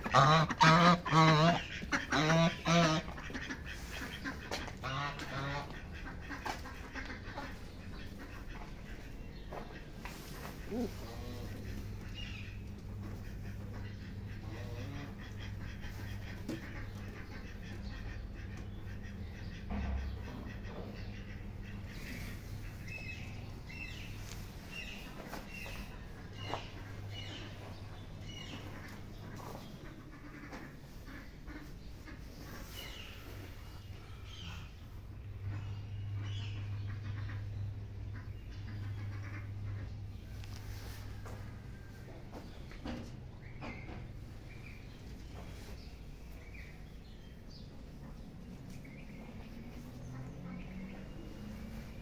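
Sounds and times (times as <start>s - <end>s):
ducks quacking: 0.0s - 52.0s
steady low hum: 0.0s - 52.0s.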